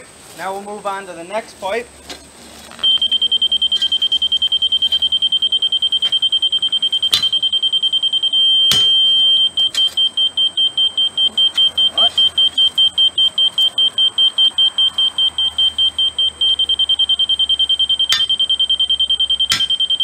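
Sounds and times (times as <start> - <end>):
rapid high-pitched beeps: 2.8 - 20.0
solid electronic tone: 2.8 - 20.0.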